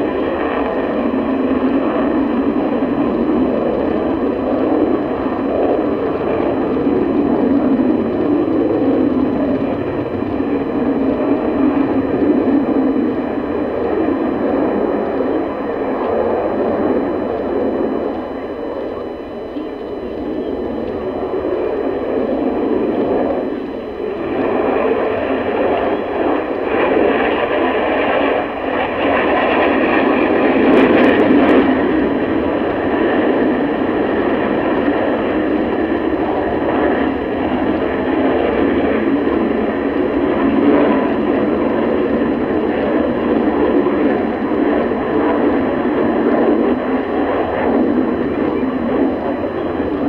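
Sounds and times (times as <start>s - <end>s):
jet engines rushing: 0.0s - 50.0s.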